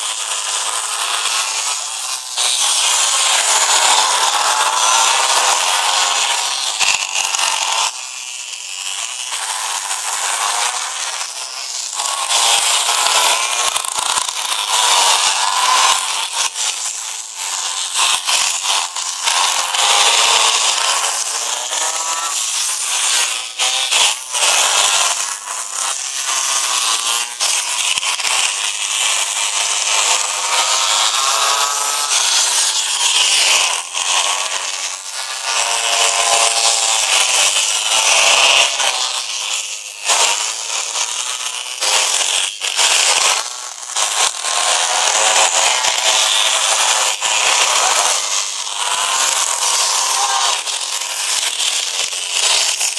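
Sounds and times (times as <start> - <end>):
small two-stroke engines revving: 0.0 - 52.9.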